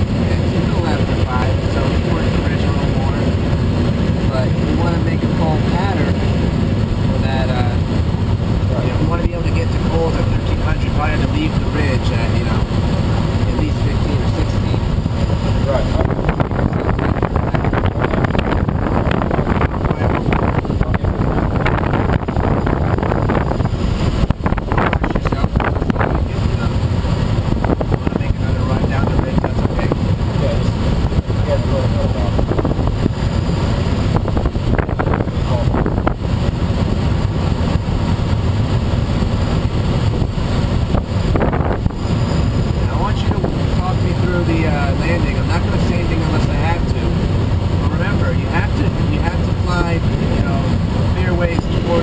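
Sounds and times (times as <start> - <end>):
airflow rushing over microphone: 0.0 - 52.0.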